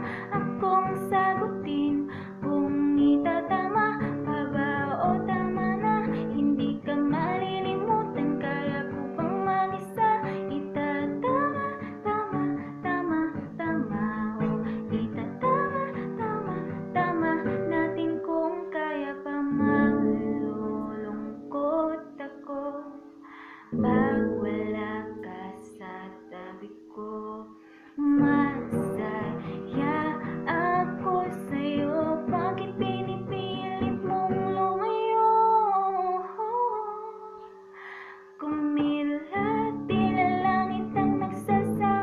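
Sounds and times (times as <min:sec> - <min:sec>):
woman singing a ballad: 0:00.0 - 0:42.0.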